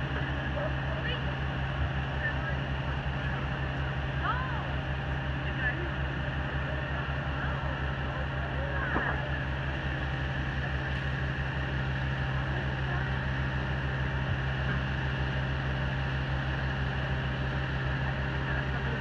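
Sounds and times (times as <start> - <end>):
crane diesel engine running: 0.0 - 19.0.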